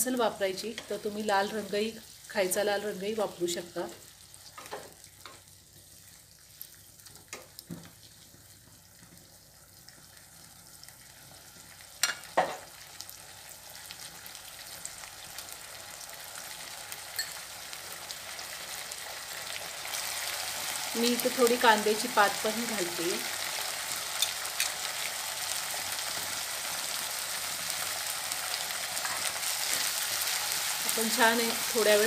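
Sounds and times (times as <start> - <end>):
vegetables sizzling in a wok: 0.0 - 32.0.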